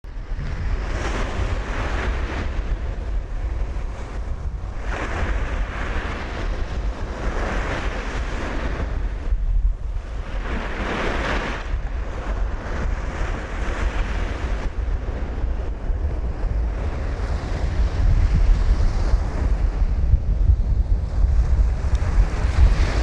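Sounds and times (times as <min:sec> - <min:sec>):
wind buffeting microphone: 0:00.0 - 0:23.0
sea waves breaking on shore: 0:00.1 - 0:23.0.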